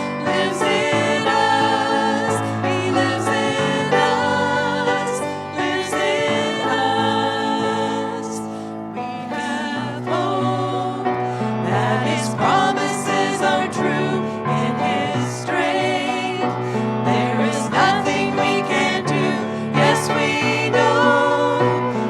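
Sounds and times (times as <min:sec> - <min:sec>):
voices singing with vibrato: 0:00.0 - 0:22.0.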